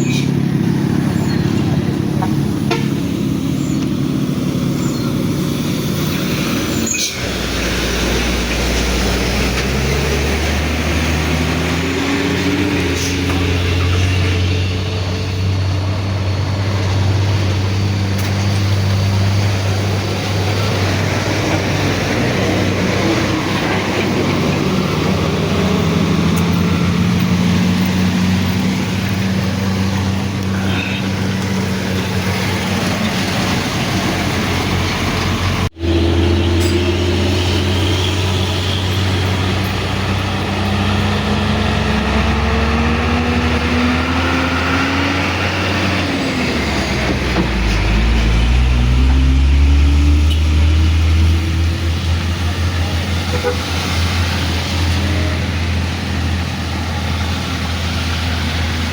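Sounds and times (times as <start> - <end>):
diesel truck engine: 0.0 - 58.9
road noise: 0.0 - 58.9.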